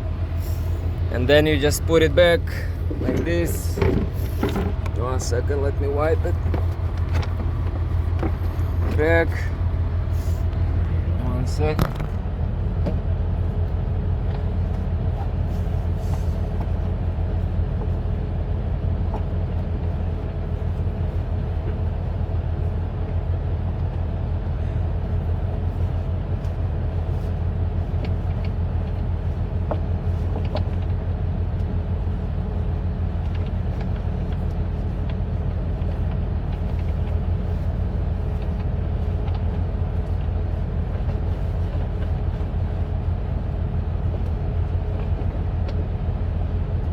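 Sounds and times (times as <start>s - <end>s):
vehicle engine idling: 0.0s - 46.9s.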